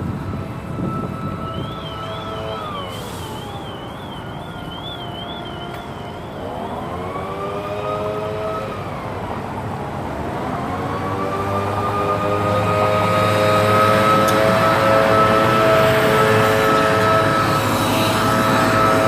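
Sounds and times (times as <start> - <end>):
emergency vehicle siren wailing: 0.0 - 19.0
road traffic noise: 0.0 - 19.0.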